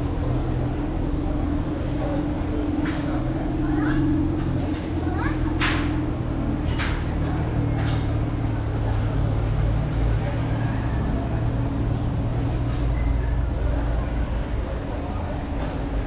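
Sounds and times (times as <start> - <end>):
murmur of street noise: 0.0 - 16.0.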